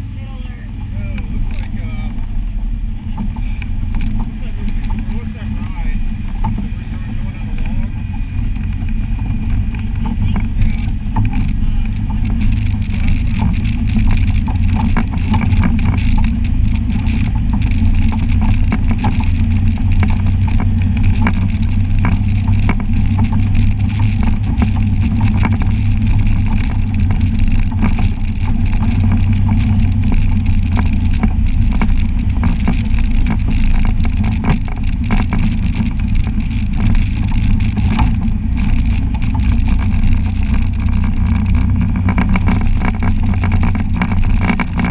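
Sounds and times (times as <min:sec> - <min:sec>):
utility vehicle engine running: 0:00.0 - 0:44.9
sharp clicks and knocks: 0:00.8 - 0:02.3, 0:03.0 - 0:44.9.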